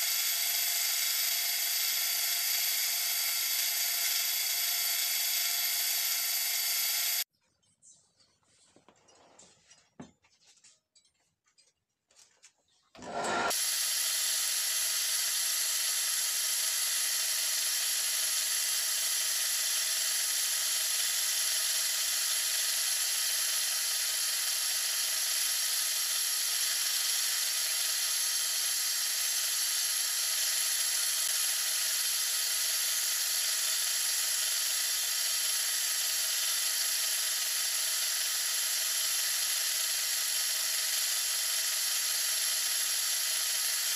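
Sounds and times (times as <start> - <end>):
wood lathe motor whine: 0.0 - 7.3, 13.0 - 43.9.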